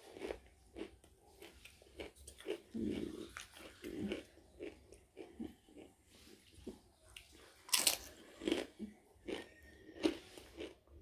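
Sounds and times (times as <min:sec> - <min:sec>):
crunchy chips being chewed: 0:00.0 - 0:11.0.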